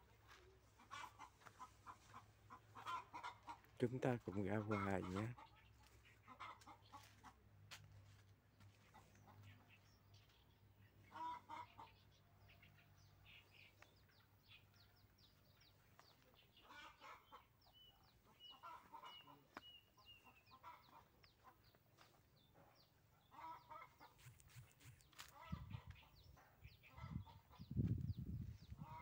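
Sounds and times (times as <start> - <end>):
chickens clucking: 0.2 - 29.0.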